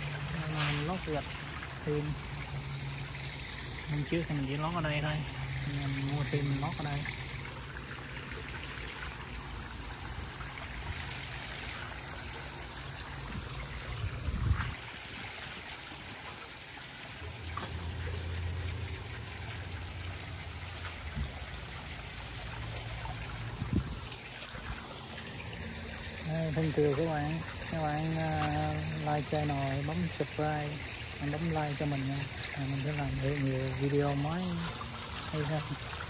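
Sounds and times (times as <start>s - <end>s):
water trickling over stones: 0.0s - 36.0s.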